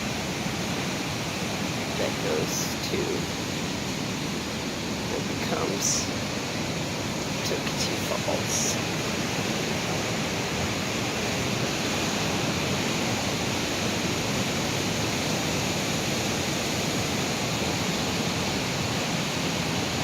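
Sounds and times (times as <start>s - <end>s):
creek flowing over rocks: 0.0s - 20.0s.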